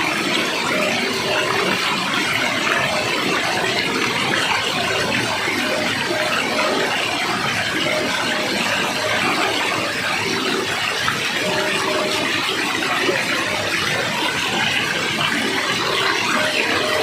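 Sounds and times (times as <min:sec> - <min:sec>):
water rushing and pouring: 0:00.0 - 0:17.0.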